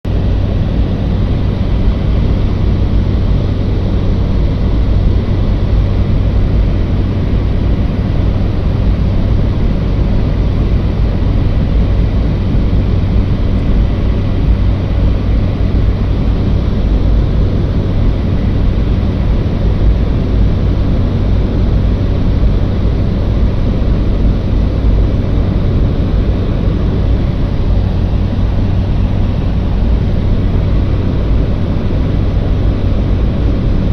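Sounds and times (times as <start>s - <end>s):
propeller aircraft engines droning: 0.1s - 33.9s.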